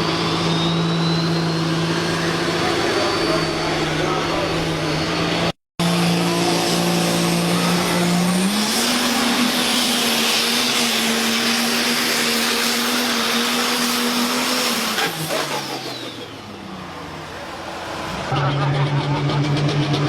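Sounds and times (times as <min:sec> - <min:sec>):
tractor engine running hard: 0:00.0 - 0:20.0.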